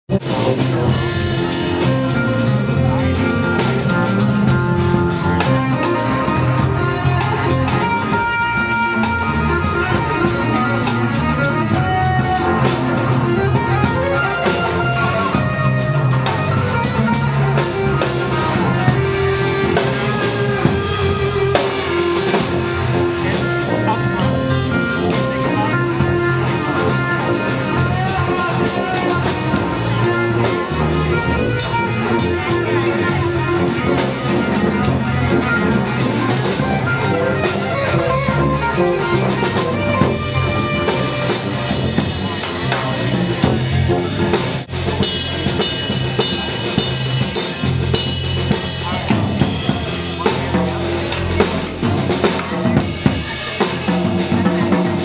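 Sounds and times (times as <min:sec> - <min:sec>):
bass notes: 0:00.0 - 0:55.0
drum kit with busy cymbals: 0:00.1 - 0:55.0
plucked guitar lines: 0:00.1 - 0:55.0.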